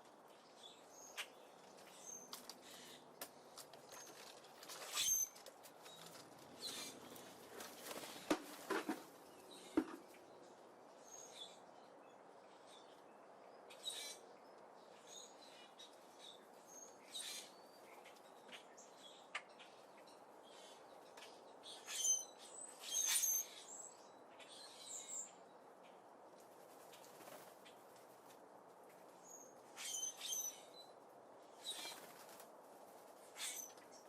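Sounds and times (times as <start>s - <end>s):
small birds chirping: 0.0s - 8.3s, 8.9s - 34.0s.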